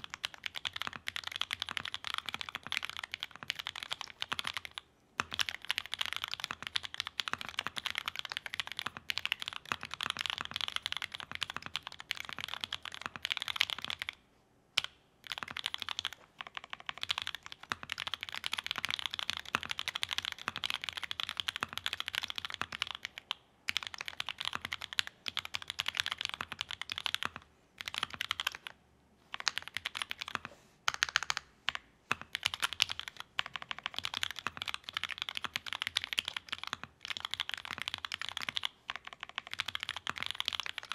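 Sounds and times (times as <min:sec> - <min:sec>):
mechanical keyboard typing: 0:00.0 - 0:14.2, 0:14.8 - 0:40.9.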